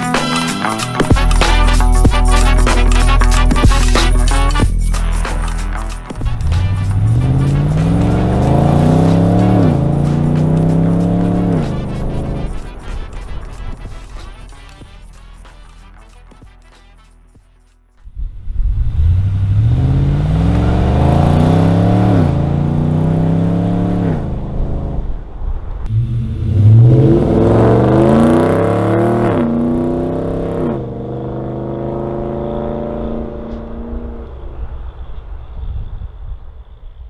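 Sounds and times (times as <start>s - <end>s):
car engine accelerating: 1.0s - 14.8s, 18.1s - 35.6s.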